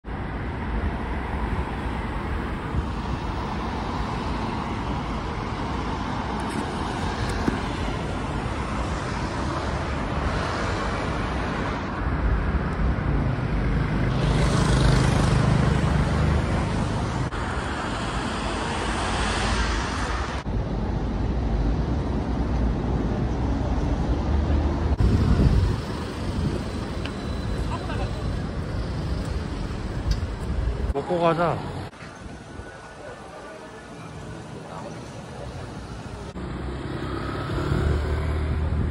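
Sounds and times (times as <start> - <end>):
cars and motorbikes passing: 0.0 - 38.9.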